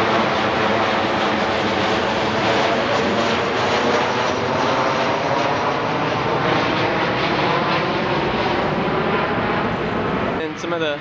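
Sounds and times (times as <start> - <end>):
steady engine noise: 0.0 - 11.0.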